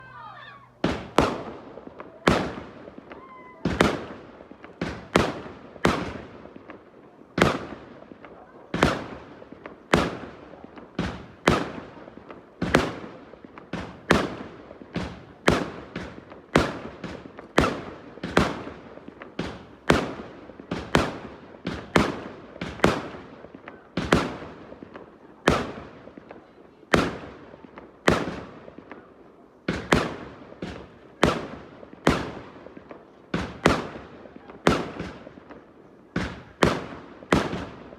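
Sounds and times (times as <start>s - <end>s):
fireworks bangs with echo: 0.8s - 37.9s.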